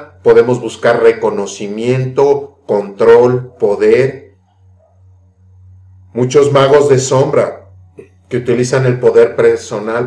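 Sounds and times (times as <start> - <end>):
man speaking: 0.0 - 4.4, 6.1 - 10.0.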